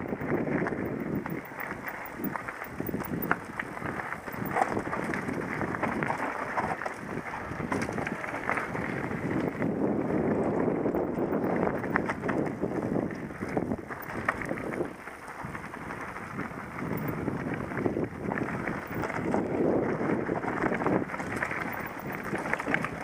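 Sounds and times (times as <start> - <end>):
mountain bike rumbling and rattling: 0.0 - 23.0
wind rushing over microphone: 0.0 - 23.0.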